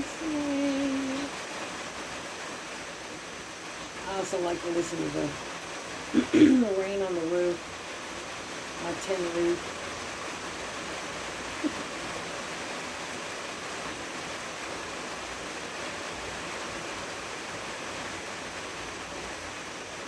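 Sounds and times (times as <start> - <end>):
rain on a tin roof: 0.0 - 20.0.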